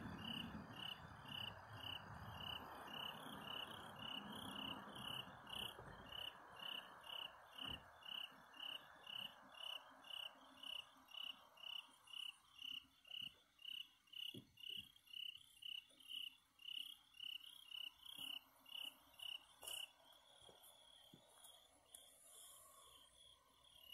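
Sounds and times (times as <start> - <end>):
cricket chirping: 0.0 - 23.9.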